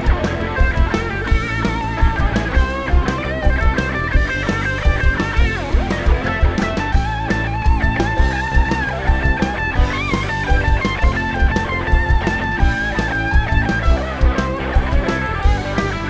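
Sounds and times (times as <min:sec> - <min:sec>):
bass: 0:00.0 - 0:16.0
drum kit beat: 0:00.0 - 0:16.0
electric guitar lead: 0:00.0 - 0:16.0.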